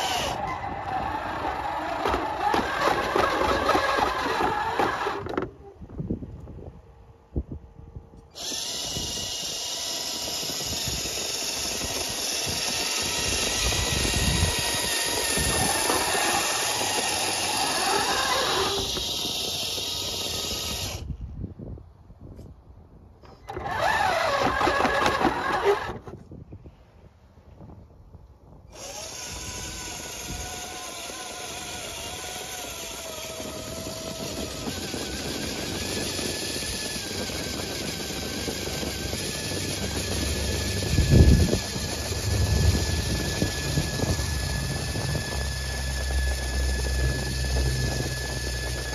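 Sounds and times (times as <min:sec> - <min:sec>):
plow pushing snow: 0:00.0 - 0:05.5, 0:08.4 - 0:21.0, 0:23.5 - 0:26.1, 0:30.1 - 0:48.9
toy truck motors whining: 0:00.0 - 0:05.7, 0:08.2 - 0:21.2, 0:23.2 - 0:26.3, 0:28.7 - 0:48.9.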